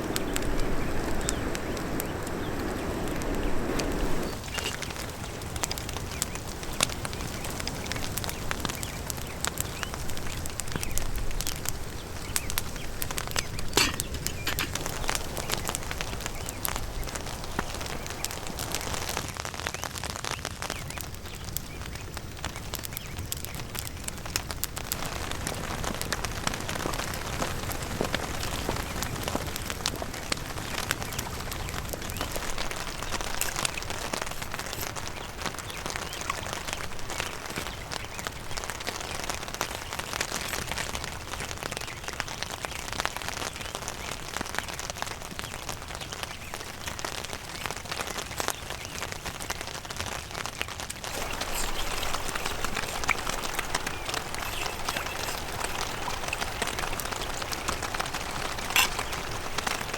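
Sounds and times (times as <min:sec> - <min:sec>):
fire popping and snapping: 0:00.0 - 0:59.9
wood fire crackling: 0:00.0 - 0:59.9.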